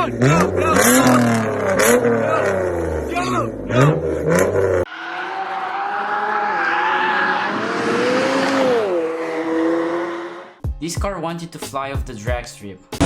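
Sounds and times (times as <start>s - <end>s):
race car engine passing: 0.0s - 10.6s.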